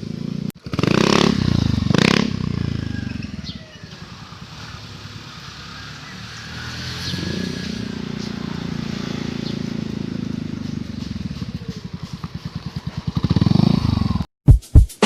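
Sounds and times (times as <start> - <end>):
scooter engine revving and idling: 0.0 - 14.3.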